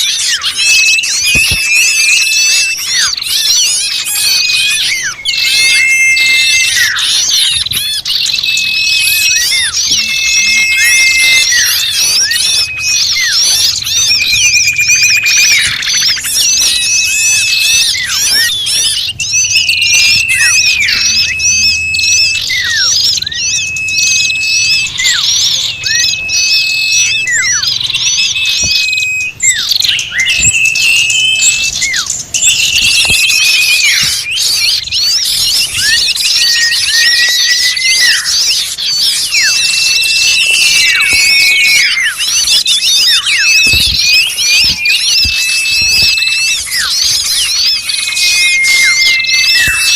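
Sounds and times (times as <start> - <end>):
held whistles with downward sweep: 0.0 - 49.9
small birds chirping and trilling: 0.0 - 49.9.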